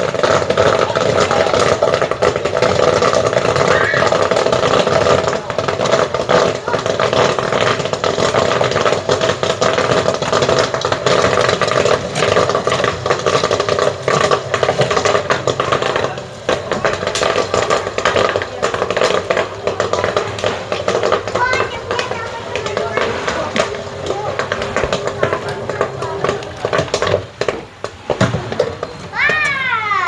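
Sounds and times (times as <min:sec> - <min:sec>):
popcorn kernels popping and rattling: 0:00.0 - 0:30.0
popcorn machine running: 0:00.0 - 0:30.0.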